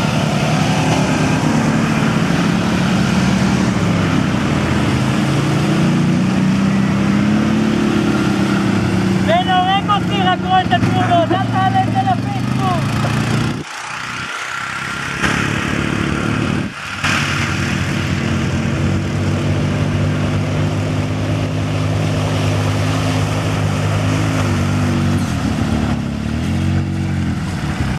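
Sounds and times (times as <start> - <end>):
off-road vehicle engine running: 0.0 - 27.9
vehicle driving through muddy water: 0.0 - 27.9.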